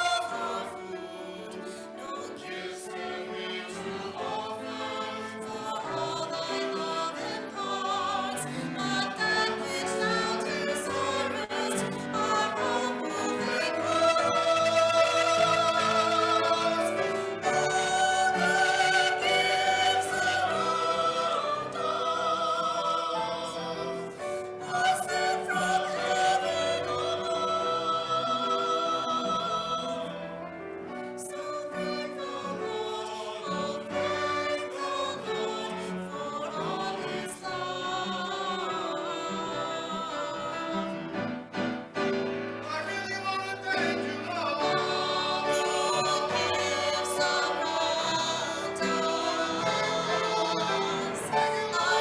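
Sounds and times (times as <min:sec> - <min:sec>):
singing voices with vibrato: 0:00.0 - 0:30.4, 0:31.2 - 0:41.1, 0:42.6 - 0:52.0.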